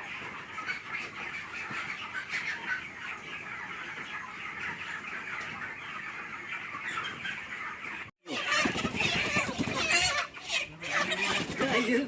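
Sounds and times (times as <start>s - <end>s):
chickens clucking and cheeping: 0.0s - 12.0s.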